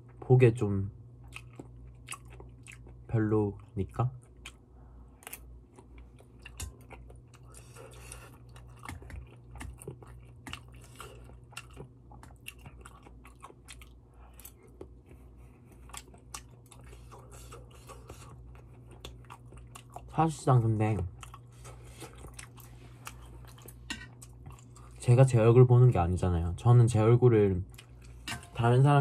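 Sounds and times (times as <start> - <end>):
steady low hum: 0.0 - 29.0
person chewing food: 1.1 - 20.2, 21.1 - 25.0, 27.7 - 28.5.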